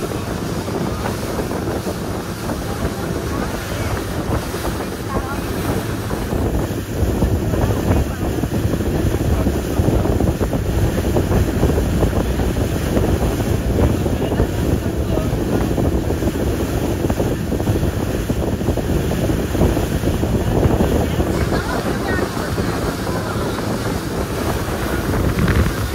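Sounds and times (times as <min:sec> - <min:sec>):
rushing water: 0:00.0 - 0:25.9
wind buffeting microphone: 0:00.0 - 0:25.9.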